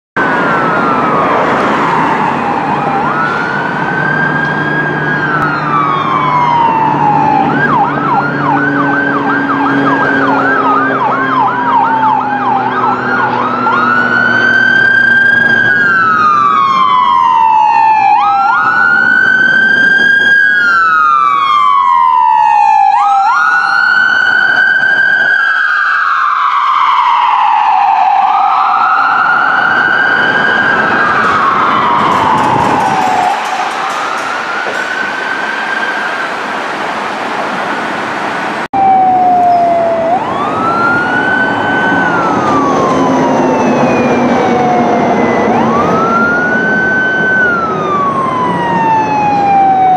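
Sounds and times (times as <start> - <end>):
ambulance siren wailing and yelping: 0.2 - 37.2, 38.7 - 49.9.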